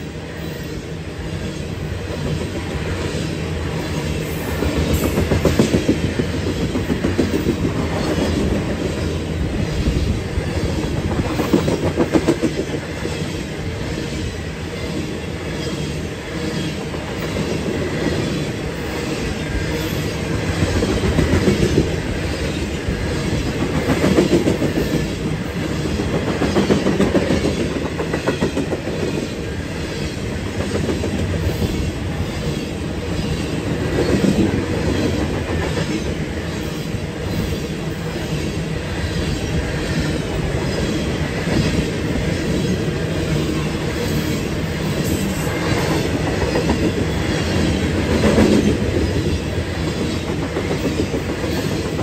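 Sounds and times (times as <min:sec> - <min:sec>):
train wheels rumbling on rails: 0:00.0 - 0:52.0
wheels clickety-clack over rail joints: 0:01.3 - 0:52.0.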